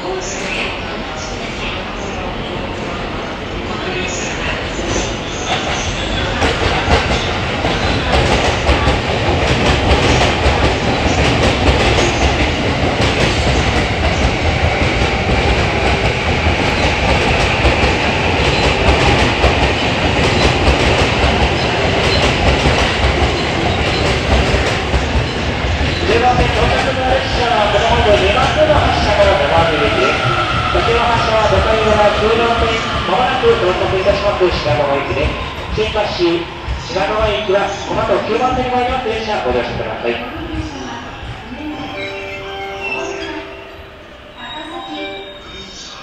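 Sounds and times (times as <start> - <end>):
train rumble: 0.0 - 46.0.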